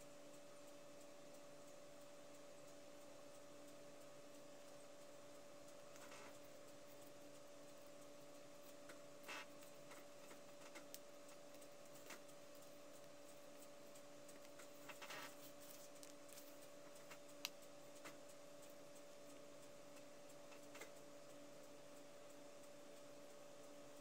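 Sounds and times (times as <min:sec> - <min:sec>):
faint steady hum: 0:00.0 - 0:24.0
sharp tick: 0:00.3 - 0:21.4.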